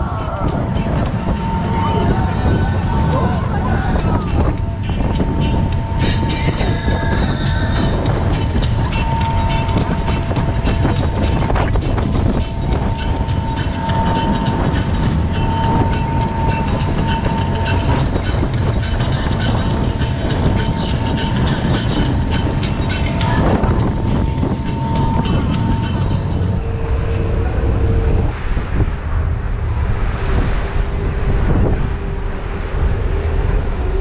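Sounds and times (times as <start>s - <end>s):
boat engine rumble: 0.0s - 34.0s
thin steady whine: 0.0s - 34.0s.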